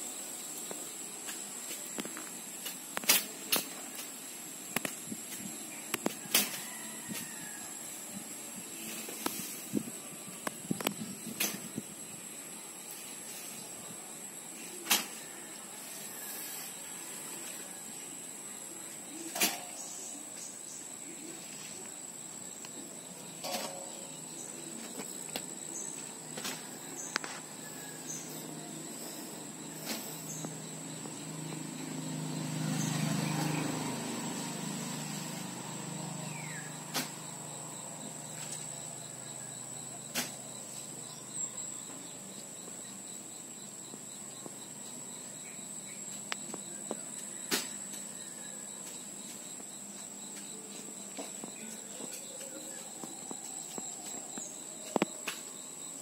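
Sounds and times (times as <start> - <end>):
high thin insect trill: 0.0 - 56.0.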